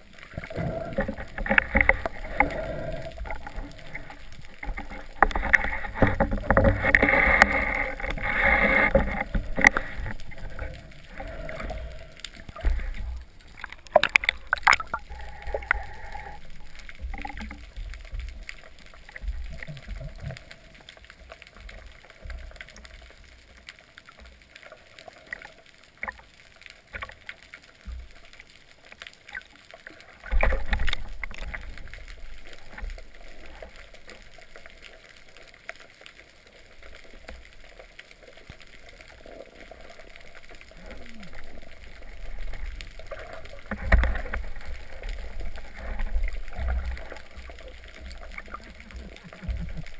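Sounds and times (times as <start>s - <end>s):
water sloshing and gurgling: 0.0s - 49.9s.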